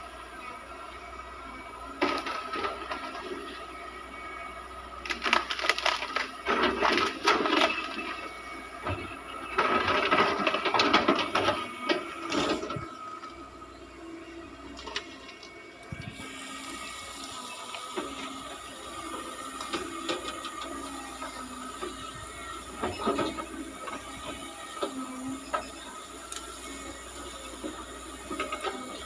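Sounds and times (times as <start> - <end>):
excavator running hum: 0.0 - 29.0
excavator crunching and cracking: 1.8 - 3.6, 4.8 - 29.0.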